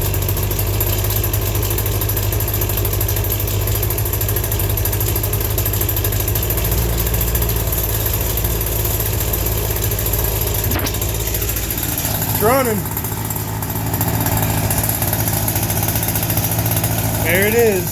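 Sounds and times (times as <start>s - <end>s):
small gas engine idling: 0.0s - 17.9s.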